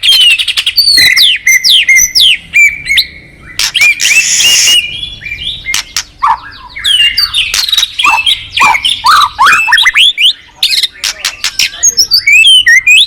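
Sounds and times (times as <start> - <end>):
harsh raspy bird call: 0.0 - 13.0
songbird singing: 0.0 - 13.0.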